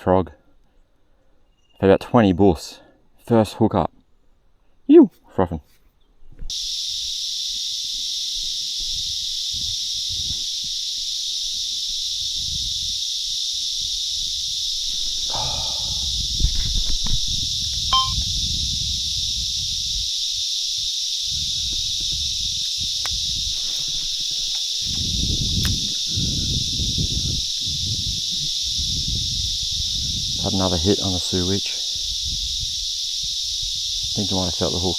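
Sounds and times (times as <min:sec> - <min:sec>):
cicadas chorus: 0:06.4 - 0:34.9.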